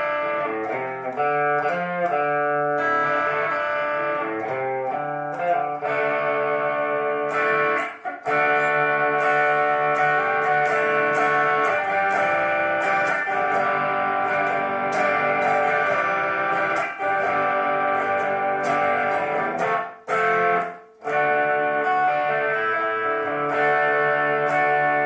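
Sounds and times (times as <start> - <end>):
electric guitar ringing notes: 0.0 - 25.0.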